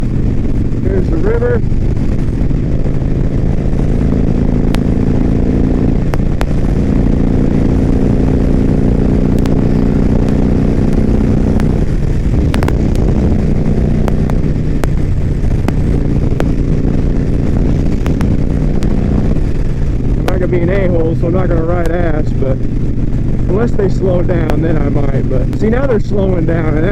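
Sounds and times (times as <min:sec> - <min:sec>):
motorcycle engine cruising: 0:00.0 - 0:26.9
sharp ticks: 0:01.6 - 0:26.0.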